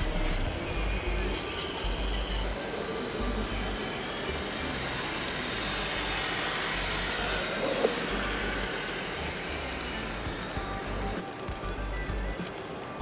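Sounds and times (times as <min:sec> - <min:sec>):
model tracked tractor running: 0:00.0 - 0:13.0.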